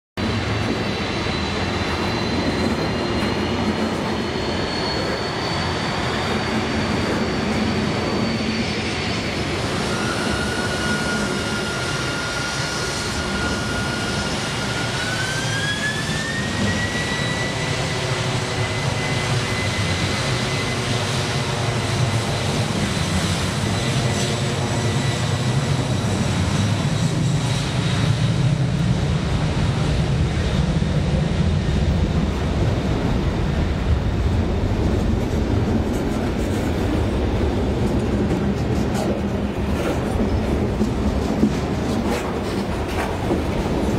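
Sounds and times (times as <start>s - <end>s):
jet engines whining and rumbling: 0.2s - 43.9s.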